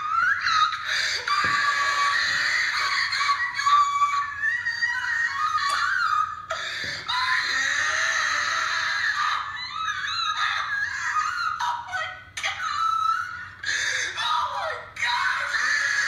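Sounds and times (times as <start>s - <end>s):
screaming through laptop speakers: 0.0s - 16.0s.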